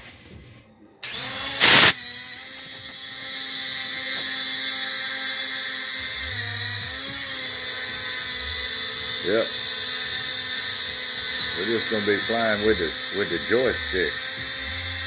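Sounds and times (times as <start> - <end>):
drone motors whining: 1.0 - 15.0.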